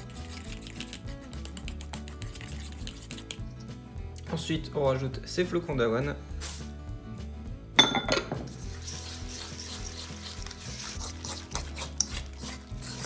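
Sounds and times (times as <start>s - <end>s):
background music with bass: 0.0s - 13.0s.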